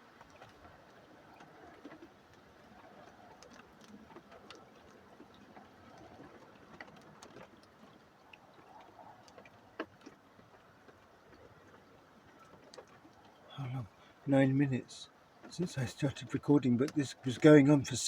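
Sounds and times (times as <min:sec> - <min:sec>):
small ticks and clicks: 0:00.0 - 0:13.5, 0:15.3 - 0:18.0
raindrops pattering: 0:00.0 - 0:18.0.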